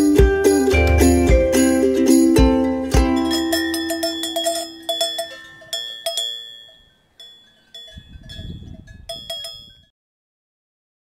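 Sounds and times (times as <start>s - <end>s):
cowbell clanking: 0.5s - 9.9s.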